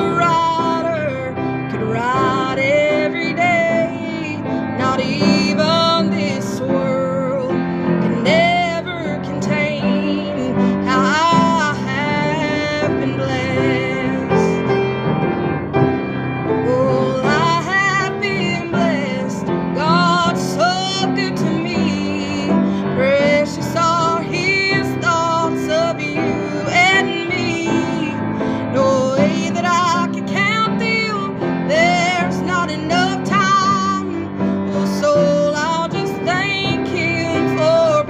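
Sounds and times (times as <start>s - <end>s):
woman singing with vibrato: 0.0s - 15.0s, 16.4s - 38.0s
piano accompaniment: 0.0s - 38.0s.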